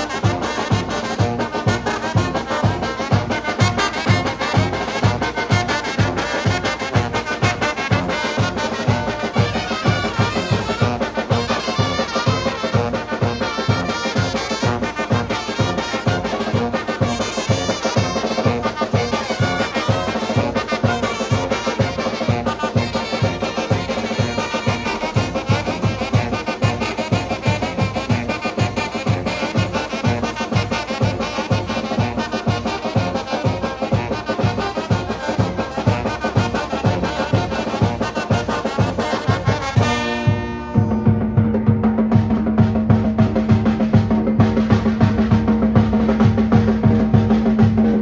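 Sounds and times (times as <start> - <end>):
brass band dance music: 0.0 - 48.0
steady drum beat: 0.0 - 48.0.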